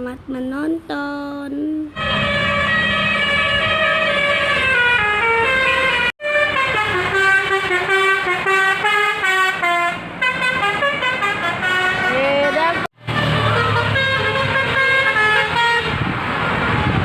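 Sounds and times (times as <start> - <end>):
multi-tone air horn tune: 1.9 - 17.0.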